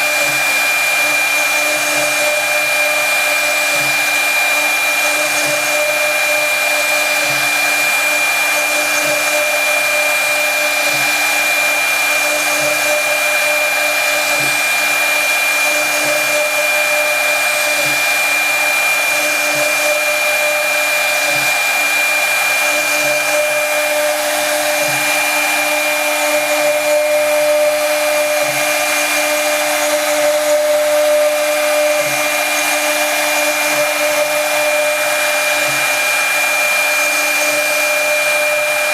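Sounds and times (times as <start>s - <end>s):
wood cutting hiss: 0.0s - 38.9s.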